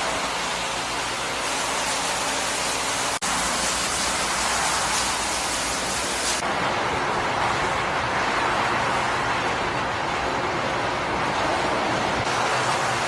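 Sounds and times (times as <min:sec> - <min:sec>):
road machinery and vehicles rushing: 0:00.0 - 0:13.0.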